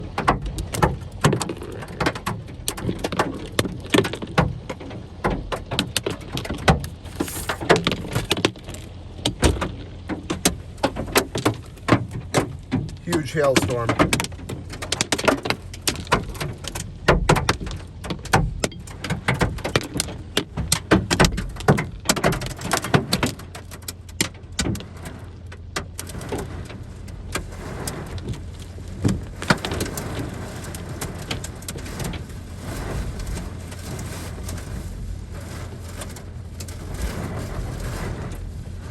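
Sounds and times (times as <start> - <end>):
hailstones pelting car roof: 0.0 - 38.9
rain-like hiss: 0.0 - 38.9.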